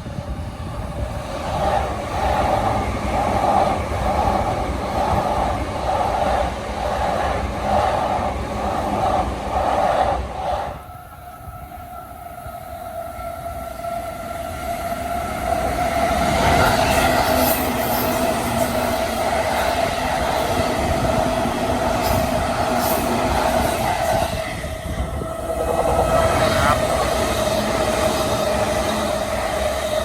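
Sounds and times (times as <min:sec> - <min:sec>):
wheels rumbling on rails: 0:00.0 - 0:11.8, 0:14.4 - 0:30.0
electric train passing: 0:00.0 - 0:30.0
high-pitched train whine: 0:00.0 - 0:30.0.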